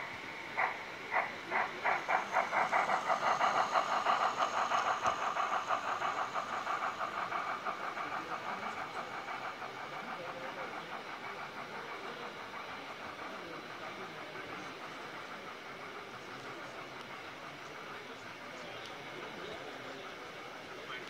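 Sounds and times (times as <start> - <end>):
model steam locomotive chuffing: 0.0 - 21.0.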